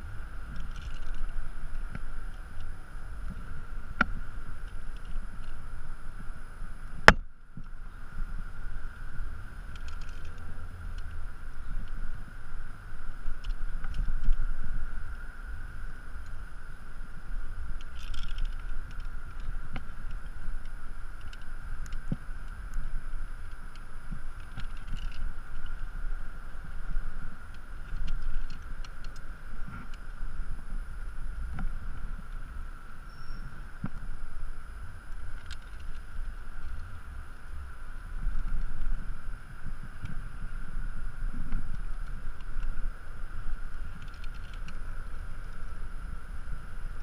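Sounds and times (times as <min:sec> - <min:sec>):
faint high hum: 0:00.0 - 0:47.0
wind rumbling on microphone: 0:00.0 - 0:47.0.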